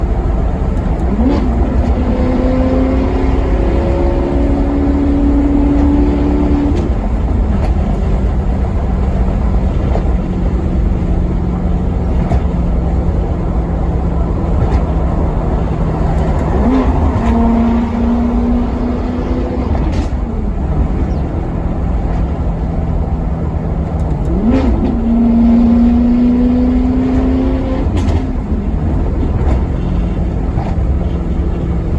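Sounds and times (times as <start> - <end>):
car engine accelerating: 0.0 - 31.9
low engine rumble: 0.0 - 31.9.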